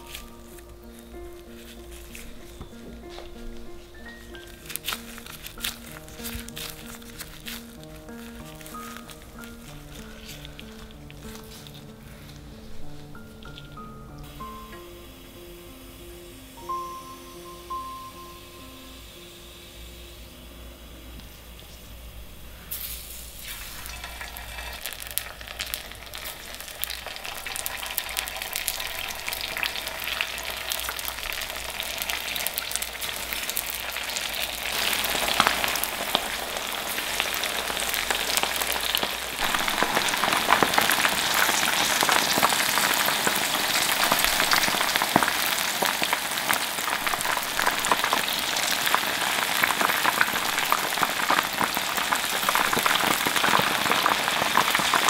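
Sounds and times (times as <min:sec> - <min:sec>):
meat deep-frying in oil: 0:00.0 - 0:12.6, 0:22.7 - 0:55.0.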